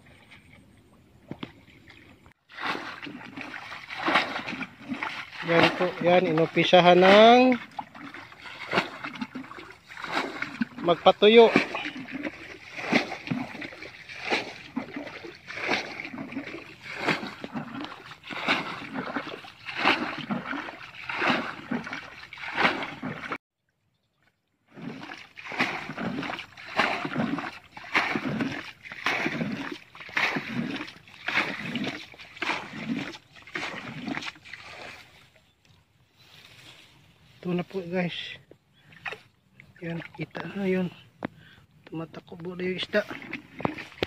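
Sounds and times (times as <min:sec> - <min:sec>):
bucket scooping and splashing water: 0:00.0 - 0:23.4, 0:24.2 - 0:36.8, 0:38.7 - 0:41.3, 0:42.4 - 0:44.0.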